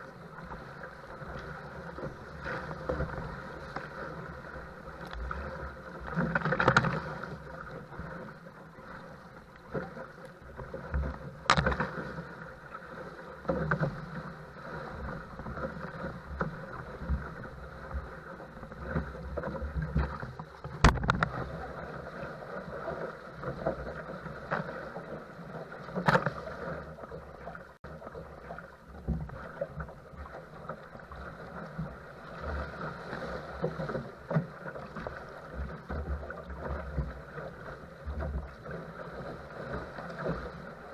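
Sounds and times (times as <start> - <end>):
choppy water sloshing: 0.0 - 40.9
water slapping against boat: 0.0 - 40.9.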